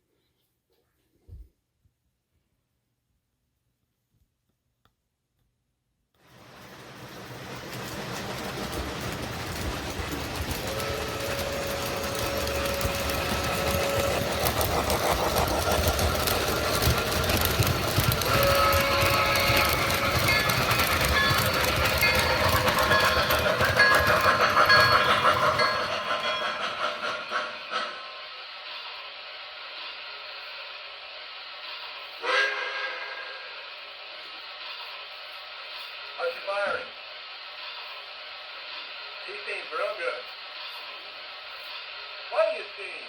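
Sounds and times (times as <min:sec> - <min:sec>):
model train running on track: 0:06.2 - 0:43.0.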